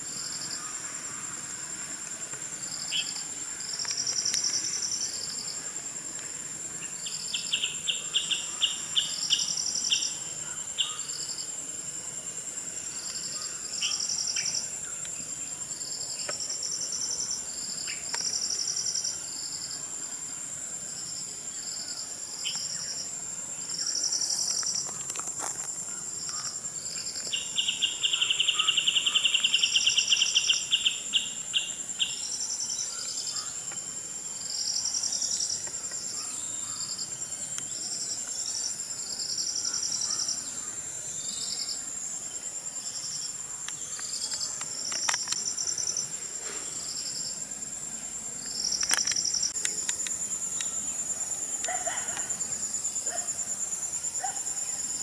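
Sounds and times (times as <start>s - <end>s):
insect pulsed chirps: 0.0s - 55.0s
insects high-pitched whine: 0.0s - 55.0s
rapid pulsing insect trill: 0.0s - 55.0s.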